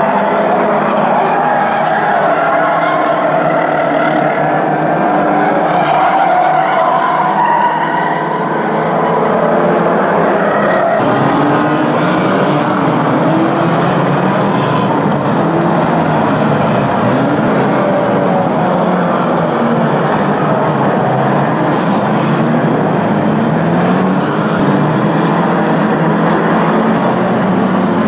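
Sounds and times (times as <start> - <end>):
racing car engines revving: 0.0 - 28.0.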